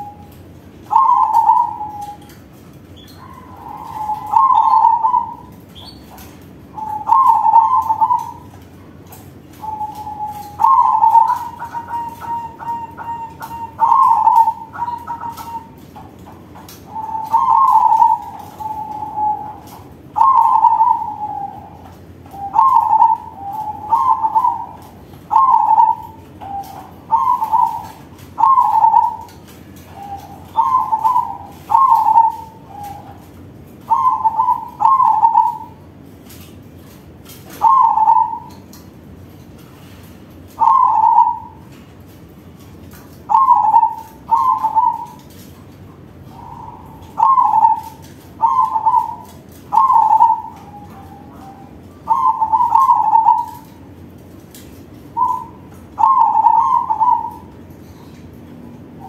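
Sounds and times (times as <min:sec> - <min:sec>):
dove cooing: 0:00.0 - 0:38.8, 0:39.7 - 0:41.8, 0:43.1 - 0:59.0.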